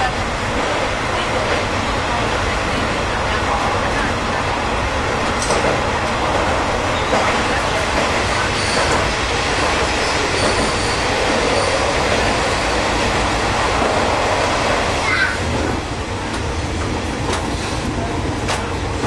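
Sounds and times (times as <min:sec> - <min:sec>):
railcar rumble in a tunnel: 0:00.0 - 0:19.0.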